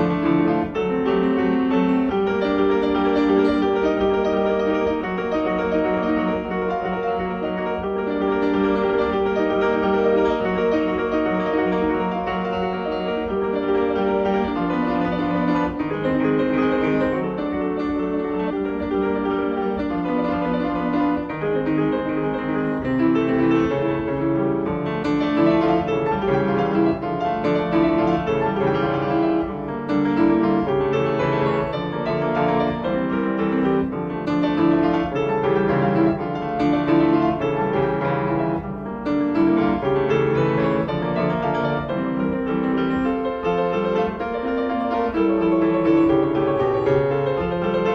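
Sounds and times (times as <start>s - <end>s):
piano piece: 0.0s - 47.9s.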